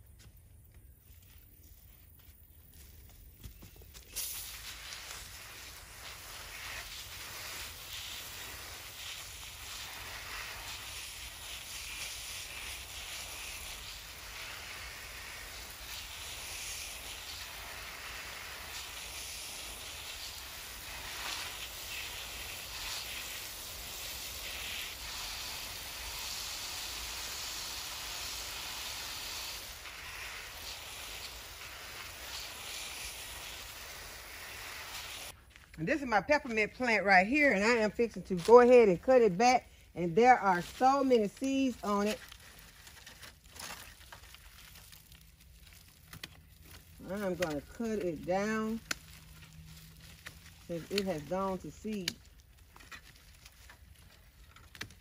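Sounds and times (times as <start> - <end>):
water spraying from garden hose: 3.9 - 35.4, 36.0 - 55.0.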